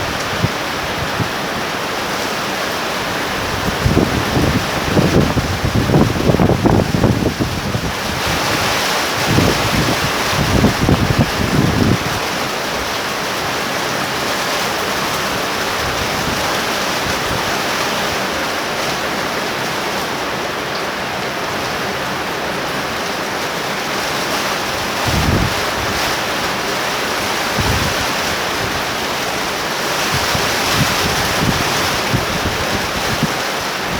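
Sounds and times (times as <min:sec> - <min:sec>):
wind buffeting microphone: 0:00.0 - 0:02.0, 0:02.7 - 0:19.8, 0:23.6 - 0:33.9
torrential rain pouring: 0:00.0 - 0:33.9.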